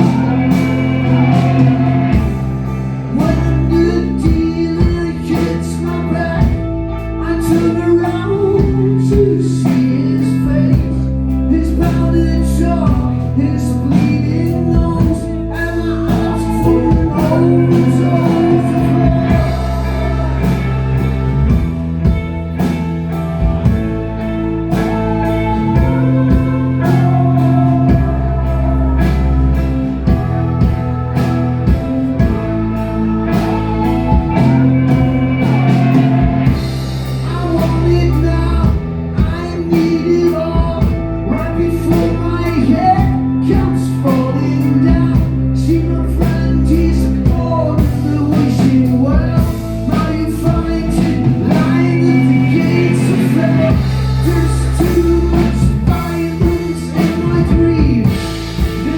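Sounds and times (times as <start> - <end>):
bass guitar notes: 0.0 - 58.9
drum kit: 0.0 - 58.9
electric guitar: 0.0 - 58.9
person singing: 0.0 - 58.9.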